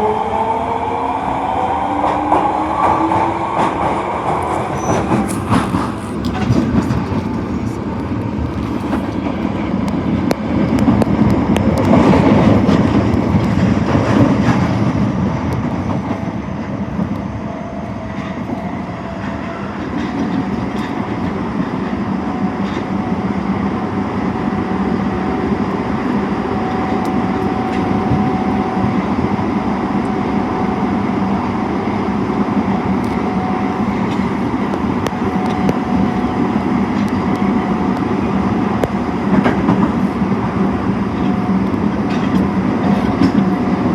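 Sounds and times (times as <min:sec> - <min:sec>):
subway car wheel and track rumble: 0:00.0 - 0:43.9.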